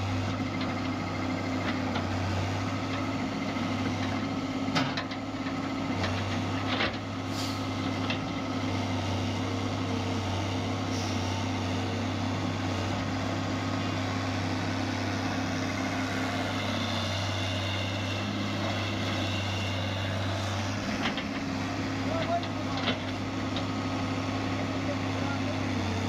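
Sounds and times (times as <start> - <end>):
diesel excavator engine running: 0.0 - 26.0.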